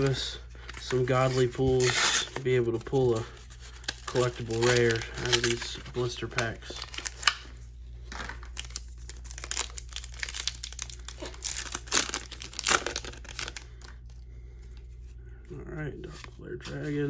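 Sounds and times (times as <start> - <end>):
wrapper crinkling and tearing: 0.0 - 14.1.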